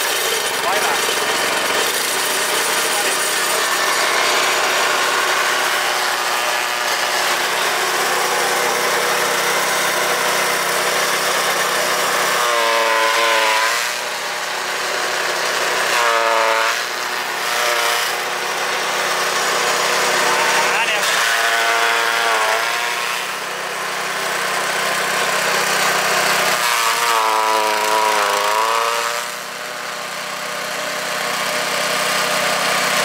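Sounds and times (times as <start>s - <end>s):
petrol engine running: 0.0s - 12.5s, 13.4s - 33.0s.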